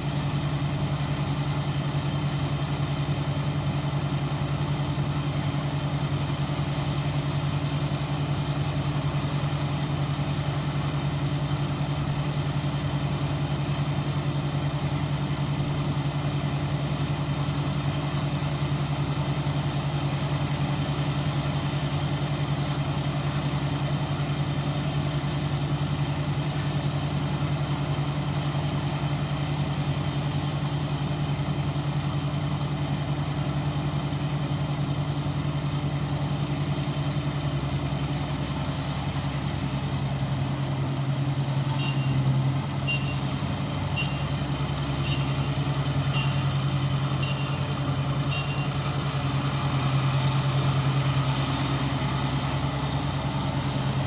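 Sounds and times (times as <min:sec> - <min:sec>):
harvester engine and machinery running: 0:00.0 - 0:54.0.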